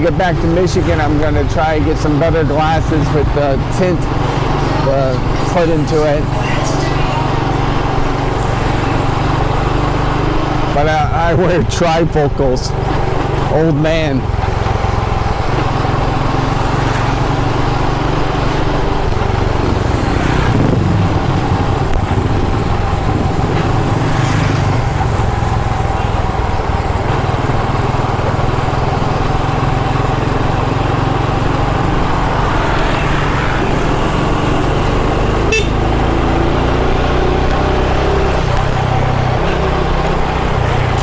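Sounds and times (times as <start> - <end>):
motorcycle engine cruising: 0.0 - 41.0.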